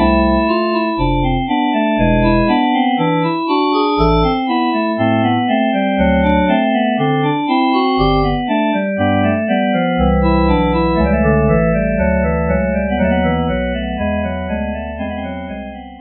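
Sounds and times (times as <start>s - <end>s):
organ bass notes: 0.0s - 16.0s
organ chords and melody: 0.0s - 16.0s.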